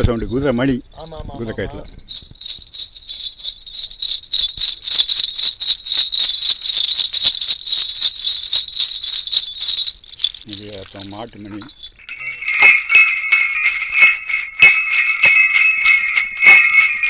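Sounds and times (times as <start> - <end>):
horse bells jingling: 0.0 - 17.0.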